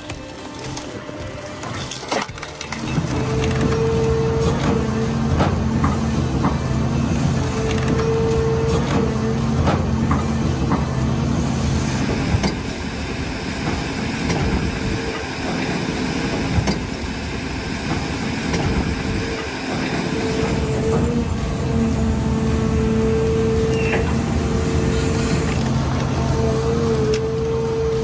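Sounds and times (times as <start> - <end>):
knocks and clanks: 0.0 - 12.9, 17.8 - 28.0
large machine engine running: 2.4 - 28.0.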